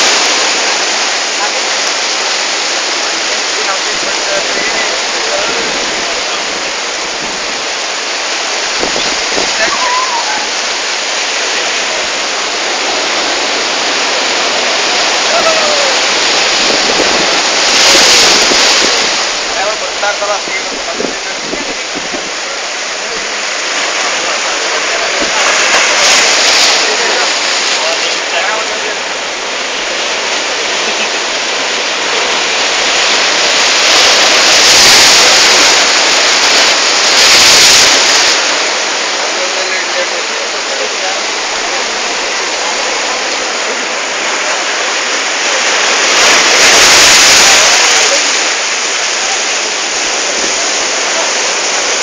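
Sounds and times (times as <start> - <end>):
waves breaking on rocks: 0.0 - 52.0.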